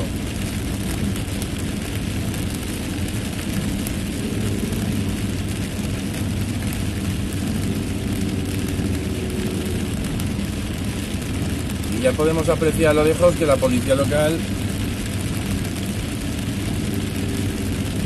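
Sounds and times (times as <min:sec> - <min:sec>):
car engine hum: 0:00.0 - 0:18.0
rain on car: 0:00.0 - 0:18.0
tyres hissing on wet road: 0:00.0 - 0:18.0.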